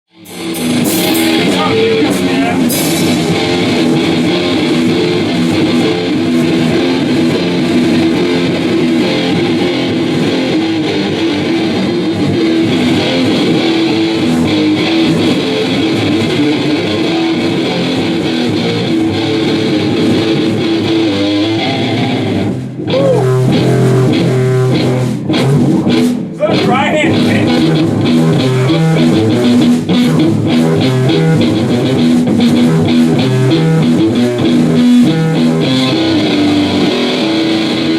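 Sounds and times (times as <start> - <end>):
electric guitar rock jam: 0.0 - 37.9.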